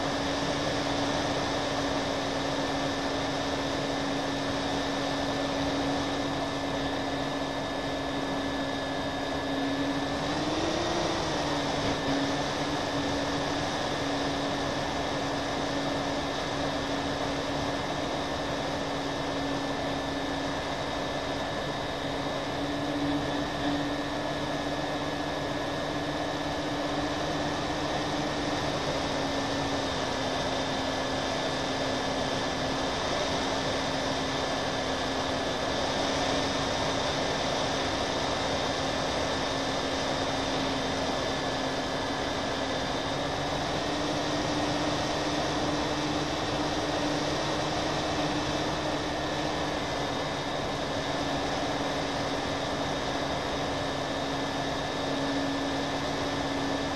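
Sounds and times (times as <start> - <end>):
model airplane motors and propellers: 0.0 - 56.9.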